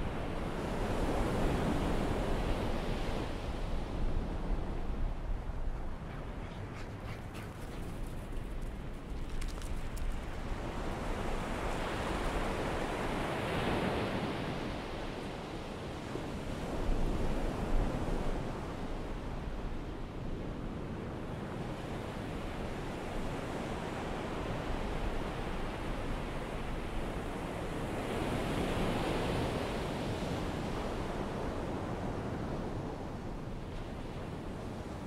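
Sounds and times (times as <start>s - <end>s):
wind: 0.0s - 35.0s.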